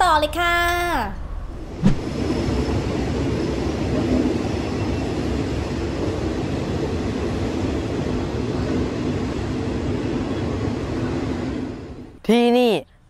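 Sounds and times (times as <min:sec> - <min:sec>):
train wheels rumbling: 0:01.7 - 0:12.2.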